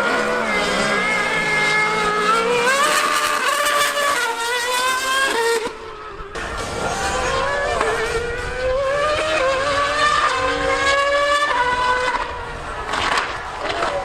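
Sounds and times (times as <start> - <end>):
racing engine revving through gears: 0.0 - 14.0.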